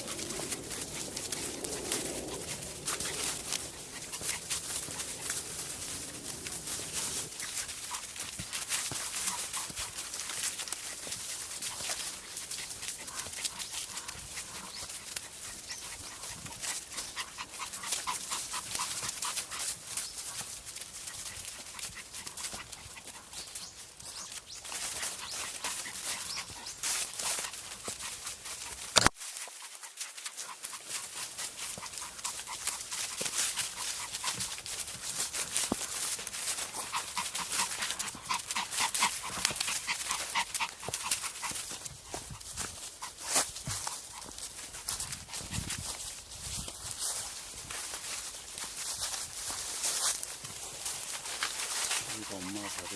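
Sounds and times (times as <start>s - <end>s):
dog panting: 0.0s - 52.9s
footsteps scuffing on dirt: 2.4s - 29.5s, 30.8s - 52.9s.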